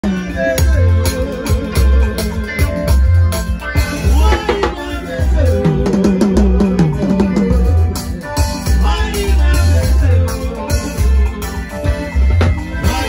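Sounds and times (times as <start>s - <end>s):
drum kit beat: 0.0s - 13.0s
live band music: 0.0s - 13.0s
man singing into a microphone: 0.0s - 13.0s.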